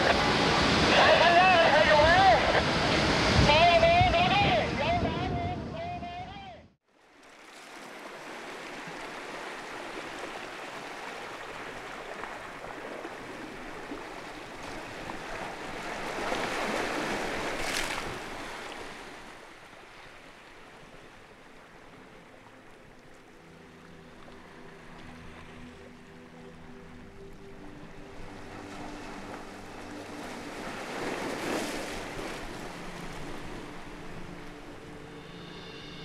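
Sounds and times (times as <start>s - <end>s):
ocean surf and breaking wave: 0.0s - 5.6s, 6.9s - 36.0s.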